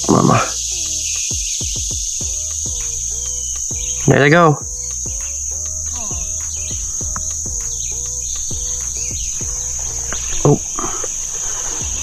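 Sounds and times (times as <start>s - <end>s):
low pulsing sound: 0.0s - 1.4s, 2.1s - 12.0s
insects droning: 0.0s - 12.0s.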